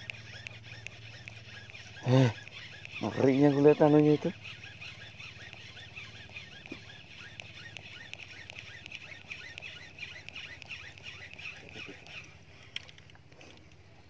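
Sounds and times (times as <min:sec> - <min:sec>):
rapid high chirping: 0:00.0 - 0:12.5.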